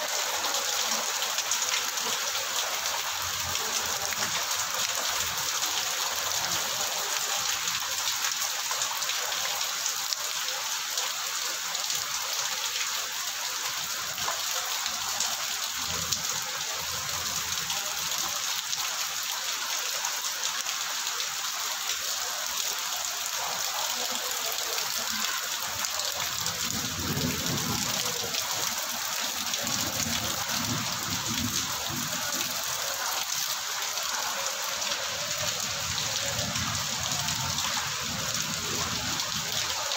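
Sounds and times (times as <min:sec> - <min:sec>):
heavy rain on wet ground: 0:00.0 - 0:39.9.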